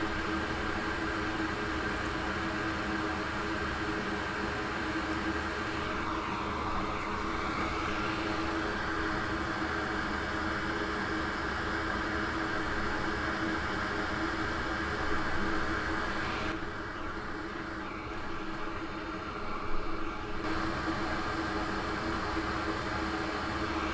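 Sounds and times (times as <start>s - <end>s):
blower hum: 0.0s - 23.9s.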